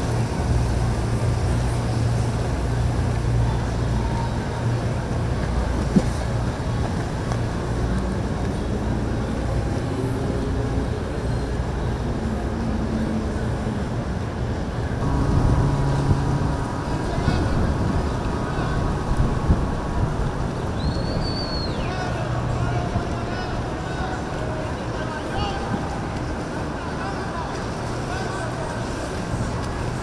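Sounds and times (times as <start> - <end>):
boat engines droning: 0.0 - 30.0.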